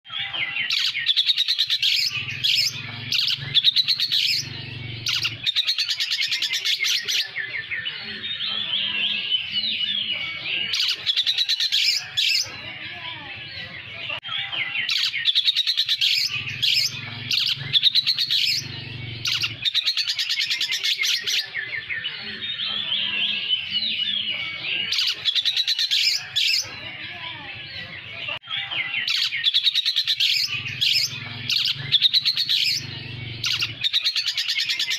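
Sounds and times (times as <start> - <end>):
magpie-robin singing: 0.1 - 34.9.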